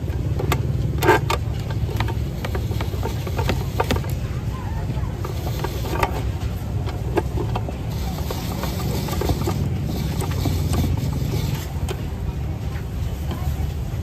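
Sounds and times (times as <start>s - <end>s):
clicks and clatter: 0.0s - 13.6s
low engine hum: 0.0s - 14.0s.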